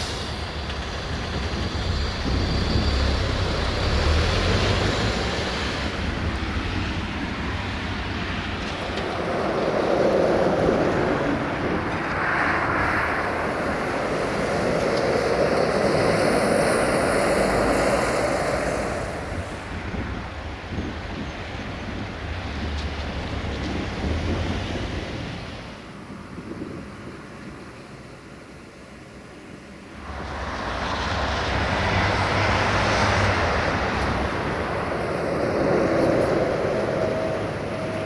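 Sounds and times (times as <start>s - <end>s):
diesel train engine drone: 0.0s - 38.0s
train wheels on rails: 0.0s - 38.0s.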